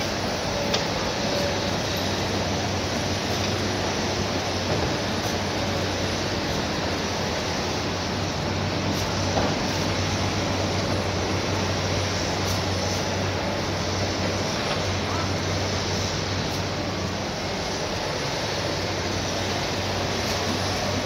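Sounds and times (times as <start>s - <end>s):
heavy machinery engine hum: 0.0s - 21.0s.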